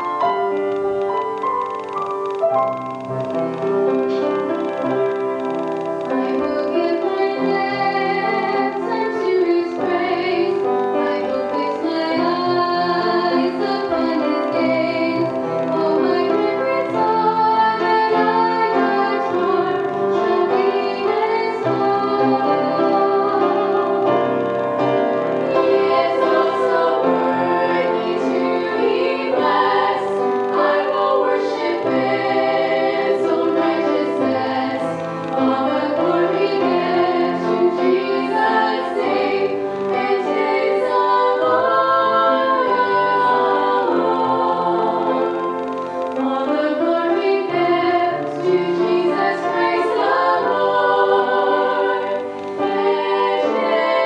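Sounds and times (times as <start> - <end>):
instrumental accompaniment: 0.0 - 54.0
women singing into microphones: 6.1 - 24.4, 25.4 - 54.0.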